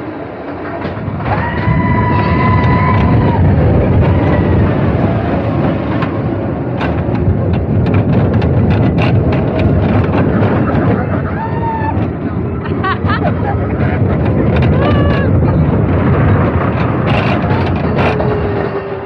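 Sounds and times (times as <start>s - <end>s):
roller coaster rumble and rushing air: 0.0s - 19.0s.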